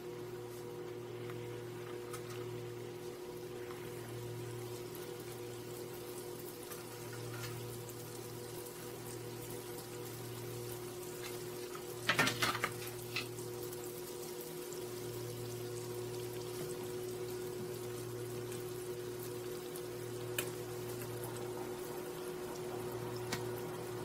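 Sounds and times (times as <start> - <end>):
dough sizzling in hot oil: 0.0 - 24.0.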